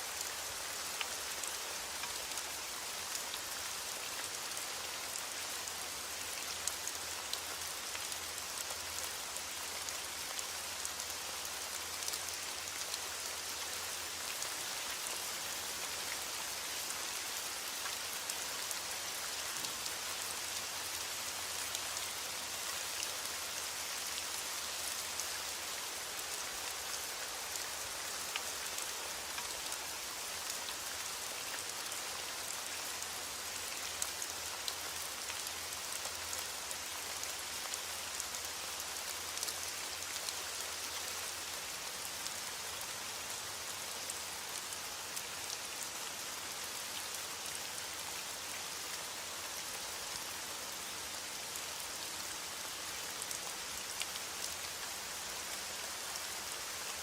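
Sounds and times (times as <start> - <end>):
rain falling on a surface: 0.0 - 57.0.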